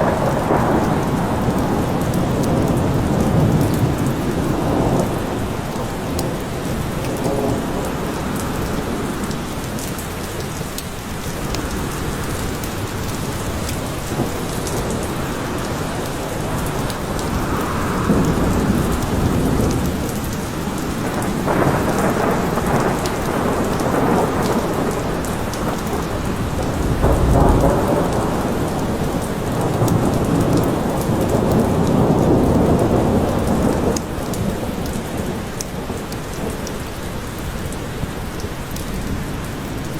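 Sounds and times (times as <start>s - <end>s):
thunder rumbling: 0.0s - 10.6s, 11.3s - 39.4s
steady rain: 0.0s - 39.9s.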